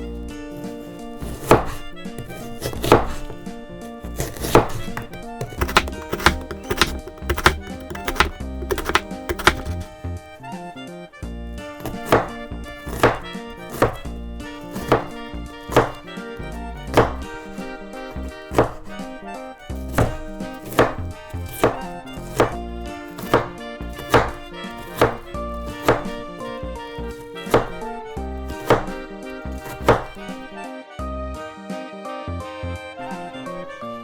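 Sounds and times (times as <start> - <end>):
knife chopping on cutting board: 0.5 - 10.0, 11.6 - 30.5.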